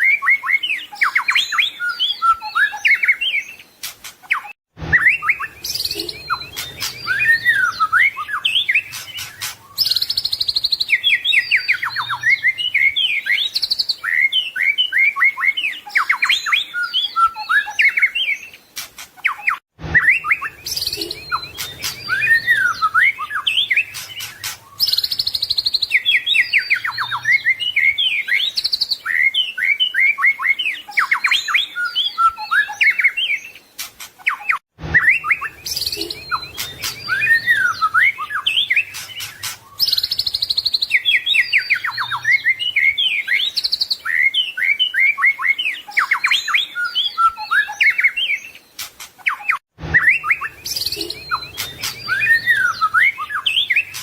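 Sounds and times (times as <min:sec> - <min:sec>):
songbird singing whistled phrases: 0:00.0 - 0:18.6, 0:19.2 - 0:54.0.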